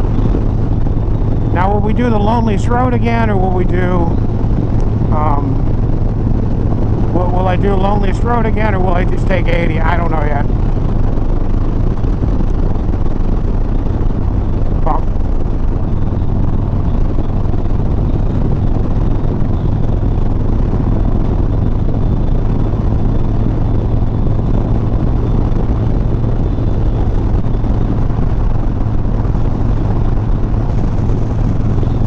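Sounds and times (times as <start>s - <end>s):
motorcycle engine running: 0.0s - 32.0s
wind noise: 0.0s - 32.0s.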